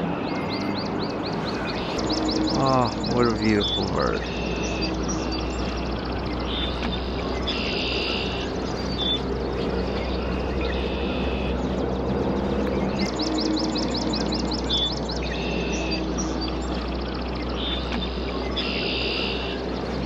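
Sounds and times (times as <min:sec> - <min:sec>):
bird trill: 0:00.0 - 0:19.9
songbirds singing: 0:00.0 - 0:20.0.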